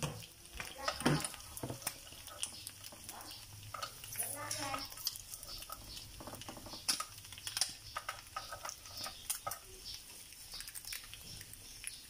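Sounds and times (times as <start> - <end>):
metal spoon tapping a pan: 0.0 - 10.0.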